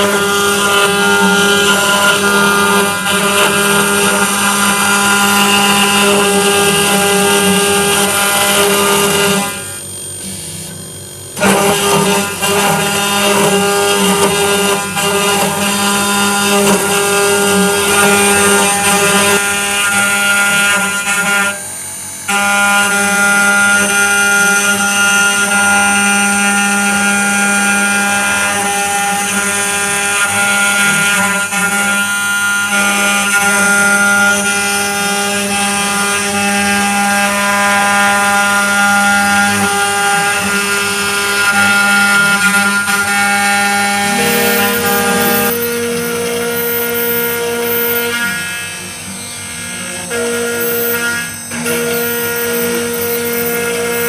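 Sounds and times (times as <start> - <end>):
metal cutting noise: 0.0 - 26.1, 32.7 - 54.0
router spindle whine: 0.0 - 54.0.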